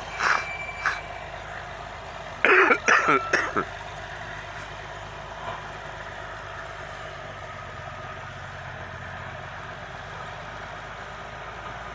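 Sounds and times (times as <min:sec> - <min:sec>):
diesel engine humming: 0:00.0 - 0:11.9.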